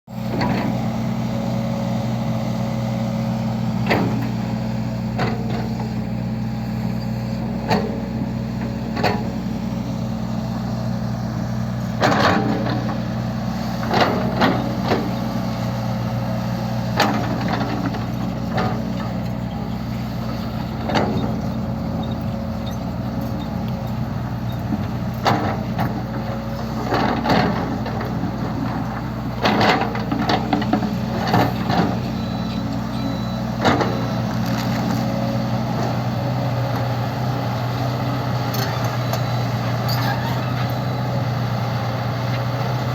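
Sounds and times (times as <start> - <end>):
heavy diesel engine running: 0.1 - 42.9
bucket and coal striking truck bed: 3.4 - 42.9.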